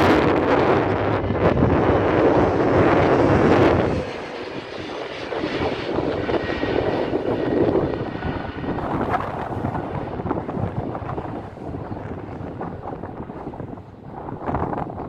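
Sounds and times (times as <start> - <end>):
airliner jet engines overhead: 0.0 - 15.0.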